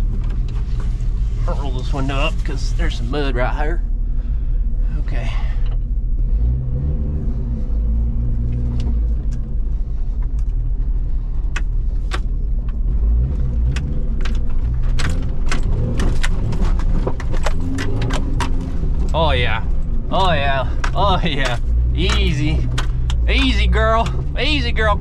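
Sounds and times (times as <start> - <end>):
car engine running at low speed: 0.0 - 25.0.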